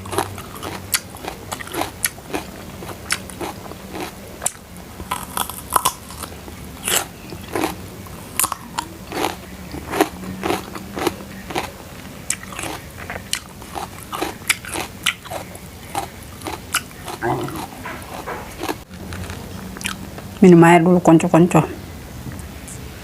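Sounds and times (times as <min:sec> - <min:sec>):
chewing crunchy food: 0:00.0 - 0:20.4.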